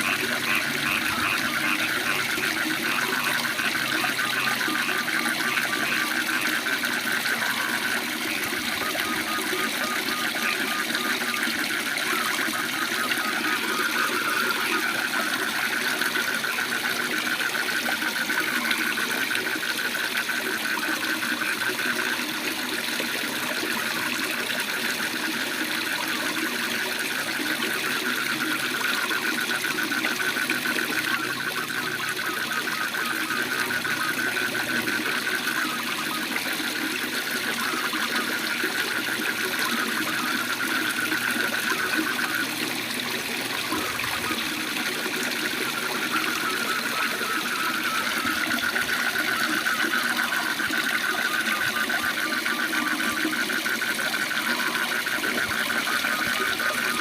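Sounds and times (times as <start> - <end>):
frogs trilling: 0.0 - 57.0.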